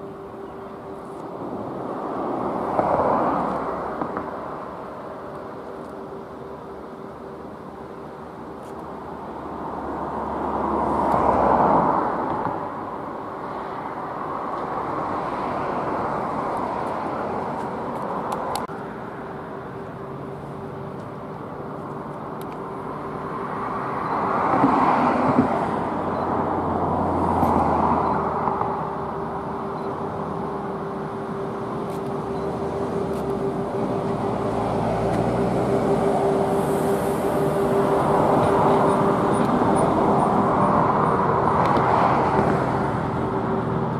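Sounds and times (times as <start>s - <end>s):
locomotive electric hum: 0.0s - 43.9s
train rushing noise: 0.0s - 43.9s.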